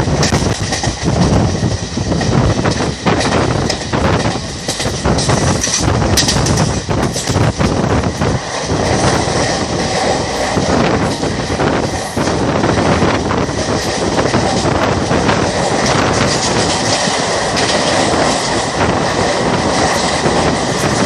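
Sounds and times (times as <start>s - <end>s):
train wheels rumbling and rattling: 0.0s - 21.0s
wheels clacking on rails: 0.0s - 21.0s.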